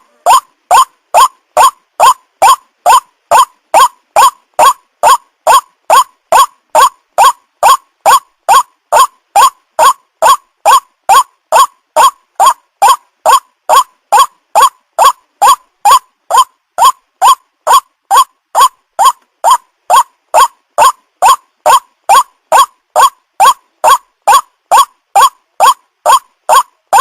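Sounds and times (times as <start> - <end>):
bird harsh croaking call: 0.0 - 27.0.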